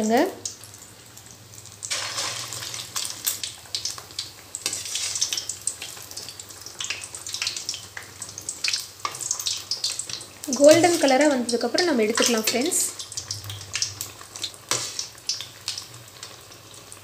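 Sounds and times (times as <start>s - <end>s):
deep-frying sizzle with pops: 0.0s - 17.0s.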